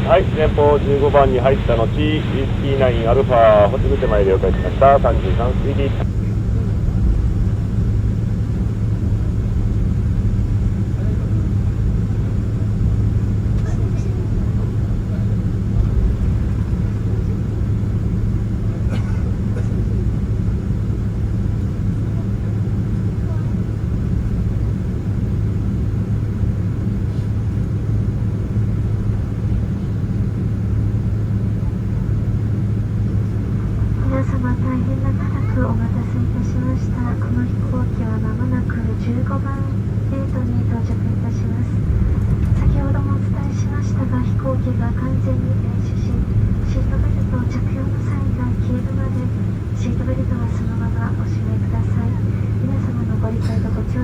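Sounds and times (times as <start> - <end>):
airliner cabin low rumble: 0.0 - 54.0
low hum: 0.0 - 54.0.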